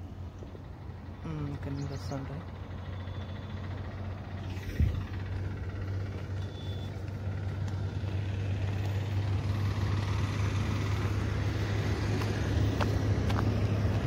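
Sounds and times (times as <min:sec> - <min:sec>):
passing vehicle engine and tyres: 0:00.0 - 0:14.0
steady low rumble: 0:00.0 - 0:14.0.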